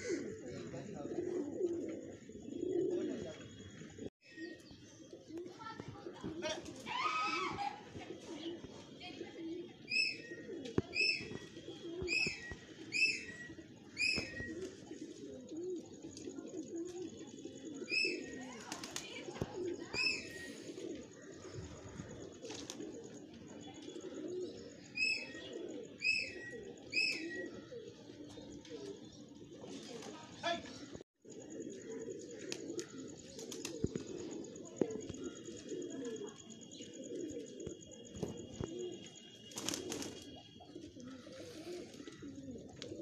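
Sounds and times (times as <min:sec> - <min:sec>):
pigeons cooing: 0:00.0 - 0:43.0.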